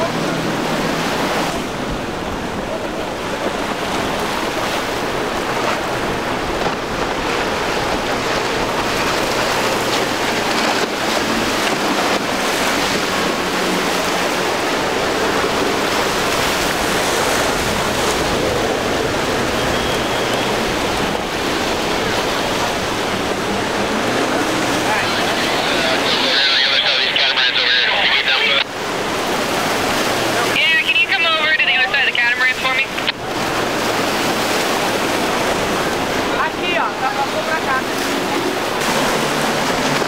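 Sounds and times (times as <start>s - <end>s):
churning water: 0.0s - 40.0s
ocean surf: 0.0s - 40.0s
outboard motors running: 0.0s - 40.0s.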